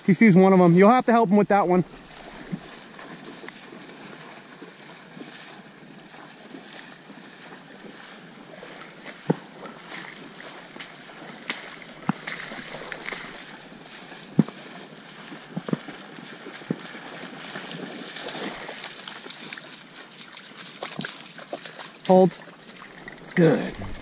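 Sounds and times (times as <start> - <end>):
dog splashing through water: 1.7 - 24.0.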